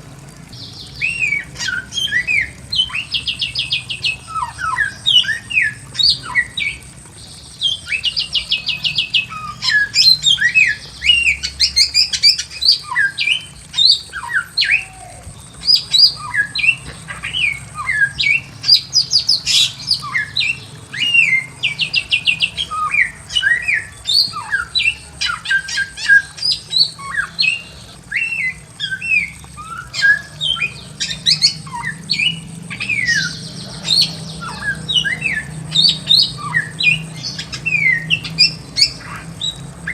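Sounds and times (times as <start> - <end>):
fast rattling bird trills: 0.0 - 39.9
bird whistling song: 0.6 - 6.9, 7.5 - 39.9.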